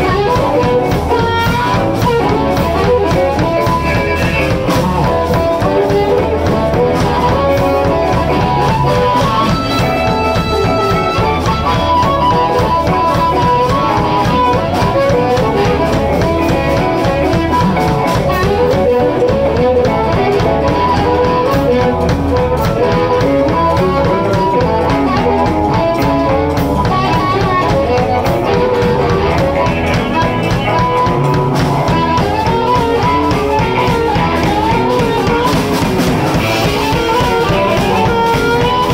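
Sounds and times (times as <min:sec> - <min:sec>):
blues guitar: 0:00.0 - 0:38.9
drum kit: 0:00.0 - 0:38.9.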